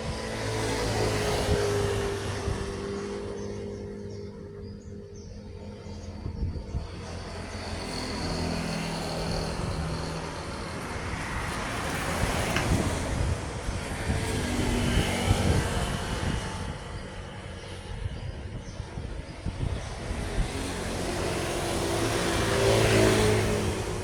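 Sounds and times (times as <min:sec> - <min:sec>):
vehicles passing on highway: 0:00.0 - 0:24.0.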